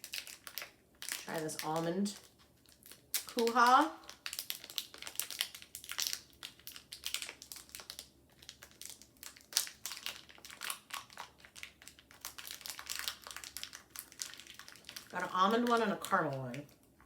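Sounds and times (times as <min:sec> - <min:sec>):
plastic wrappers crinkling: 0:00.0 - 0:17.0.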